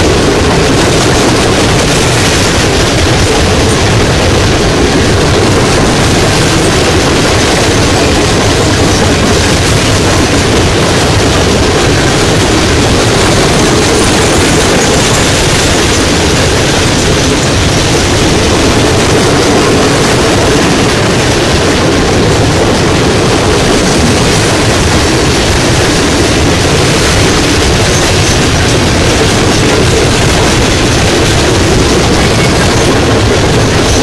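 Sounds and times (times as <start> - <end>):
train wheels rolling on rails: 0.0 - 34.0.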